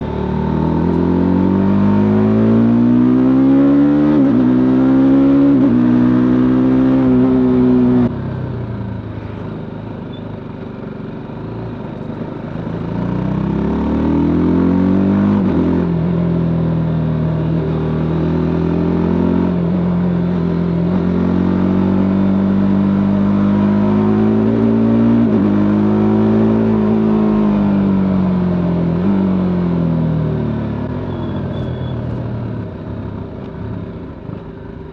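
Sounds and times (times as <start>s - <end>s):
motorcycle engine accelerating: 0.0s - 10.2s, 10.8s - 34.9s.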